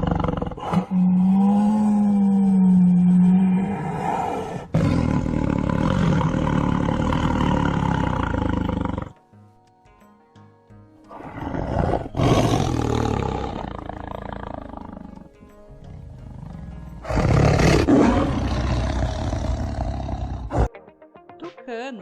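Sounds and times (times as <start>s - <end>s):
tiger roaring: 0.0s - 9.2s, 11.1s - 20.7s
background music: 0.0s - 22.0s.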